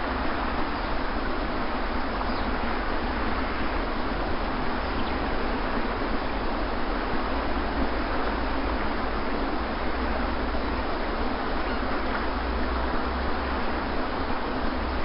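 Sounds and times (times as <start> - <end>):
sea waves washing on beach: 0.0 - 15.0.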